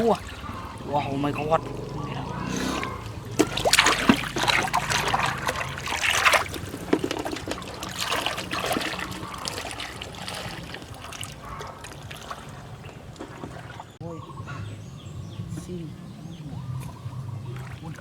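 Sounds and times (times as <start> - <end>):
shallow water splashing: 0.0 - 14.3, 16.8 - 18.0.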